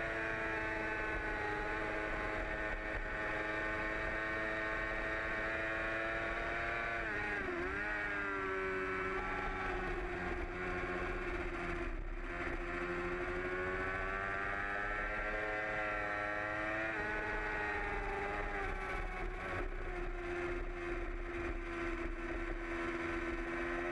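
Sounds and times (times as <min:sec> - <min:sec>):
motorcycle engine at high revs: 0:00.0 - 0:23.9.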